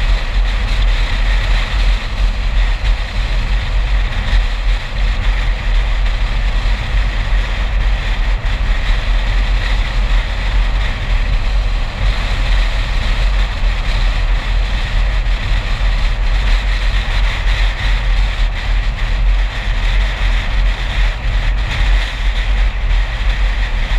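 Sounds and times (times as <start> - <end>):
wind and road noise rumble: 0.0 - 23.9.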